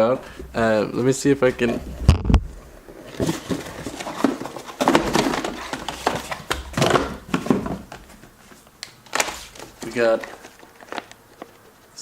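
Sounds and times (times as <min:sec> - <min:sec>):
cardboard package rustling: 0:00.2 - 0:12.0.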